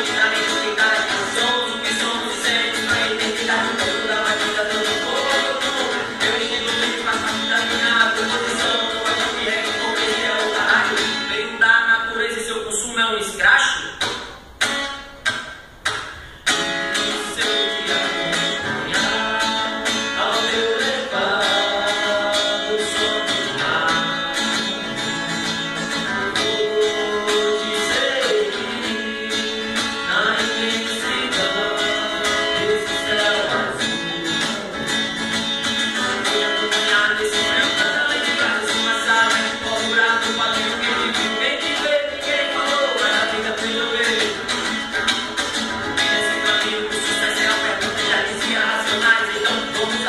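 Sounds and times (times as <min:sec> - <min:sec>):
person singing: 0:00.0 - 0:13.1, 0:17.0 - 0:24.6, 0:26.3 - 0:35.2, 0:36.0 - 0:44.6, 0:45.9 - 0:50.0
hip-hop music with guitar: 0:00.0 - 0:50.0.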